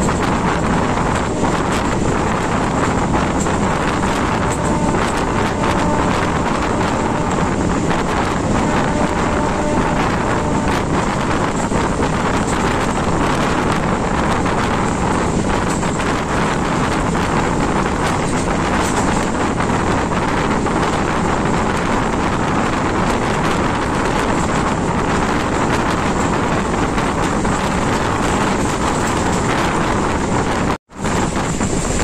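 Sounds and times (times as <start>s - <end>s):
train rumbling at speed: 0.0s - 32.0s
wind buffeting microphone: 0.0s - 32.0s.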